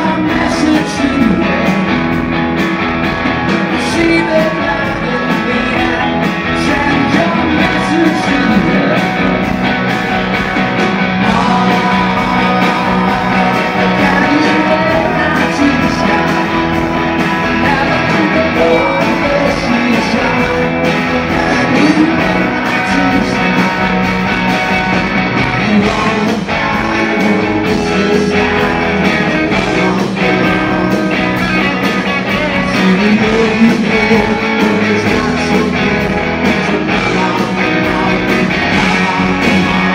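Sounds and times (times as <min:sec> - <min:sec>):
man singing: 0:00.0 - 0:02.2, 0:03.6 - 0:09.5, 0:11.2 - 0:24.2, 0:25.4 - 0:39.9
bass guitar: 0:00.0 - 0:39.9
drums: 0:00.0 - 0:39.9
electric guitars: 0:00.0 - 0:39.9.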